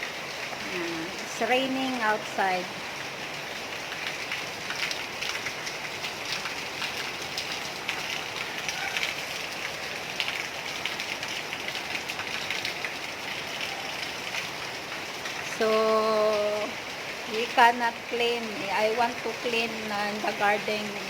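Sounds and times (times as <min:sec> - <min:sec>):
heavy rain: 0:00.0 - 0:21.0
raindrops ticking on hard surface: 0:00.0 - 0:21.0.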